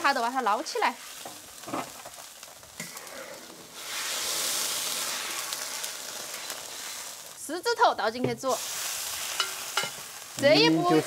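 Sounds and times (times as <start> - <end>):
liquid sizzling in a wok: 0.0 - 11.0.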